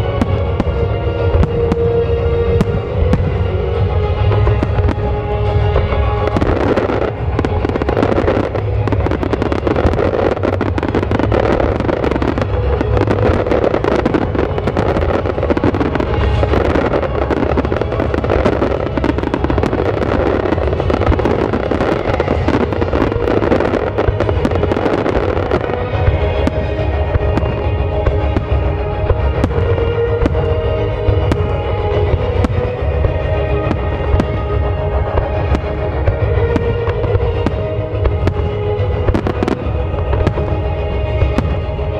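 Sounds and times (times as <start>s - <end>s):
fireworks crackling and banging: 0.0s - 41.9s
low rumble: 0.0s - 41.9s
music playing: 0.0s - 41.9s.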